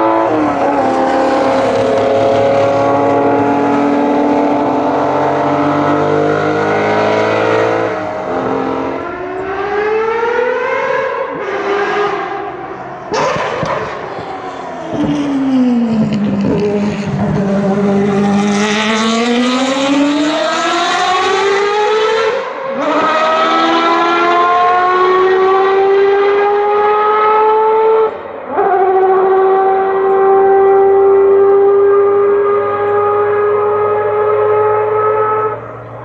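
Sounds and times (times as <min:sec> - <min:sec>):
race car engine accelerating: 0:00.0 - 0:36.0.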